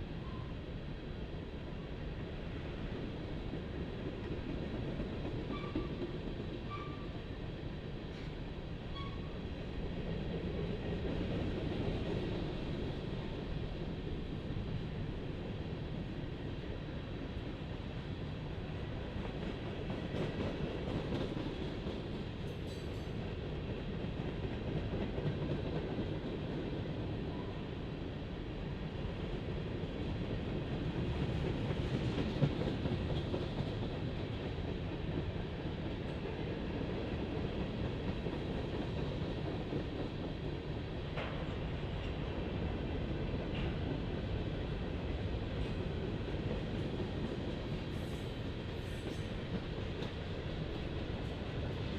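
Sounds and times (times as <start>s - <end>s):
freight train wheels on rail: 0.0s - 51.9s.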